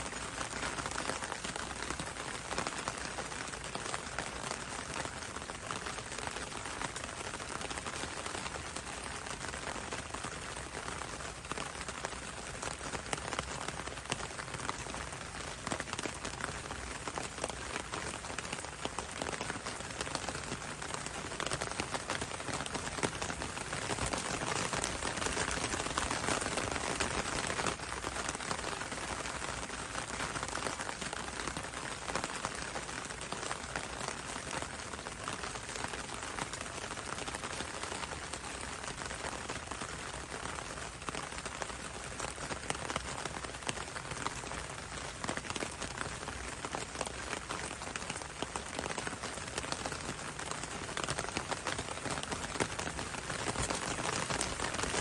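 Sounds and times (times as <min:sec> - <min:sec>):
rain on leafy foliage: 0:00.0 - 0:55.0.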